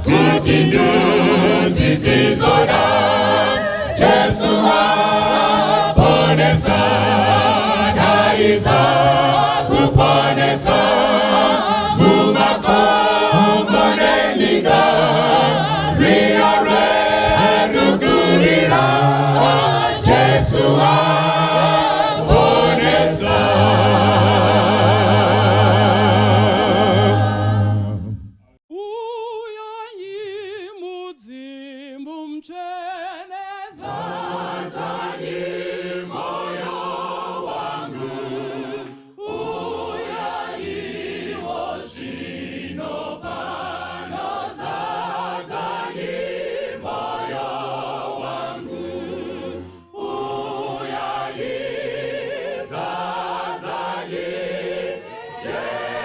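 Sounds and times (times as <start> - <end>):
congregation singing a hymn: 0.0 - 28.3, 33.0 - 56.0
single voice singing: 0.0 - 56.0.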